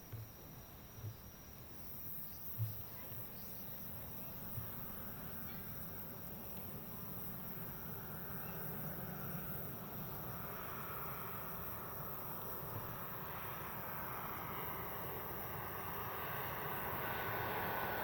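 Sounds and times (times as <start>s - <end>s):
insect buzz: 0.0s - 18.0s.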